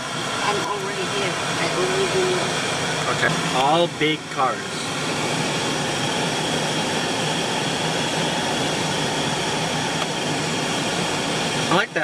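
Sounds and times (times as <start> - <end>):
air conditioning blower rushing: 0.0 - 12.0.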